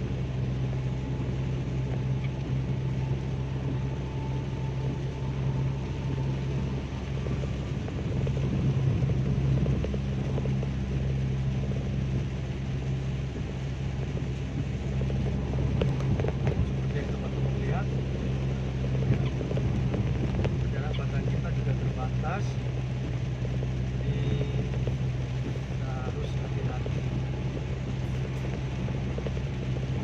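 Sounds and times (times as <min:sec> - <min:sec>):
car cabin drone at speed: 0:00.0 - 0:30.0
heavy rain hiss: 0:00.0 - 0:30.0
tyres on wet road: 0:00.0 - 0:30.0.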